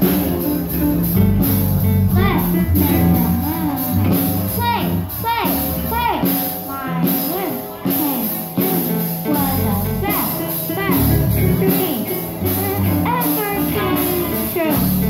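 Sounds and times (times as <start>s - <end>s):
bass guitar: 0.0s - 15.0s
drums with cymbal beat: 0.0s - 15.0s
electric keyboard: 0.0s - 15.0s
person singing: 2.1s - 15.0s.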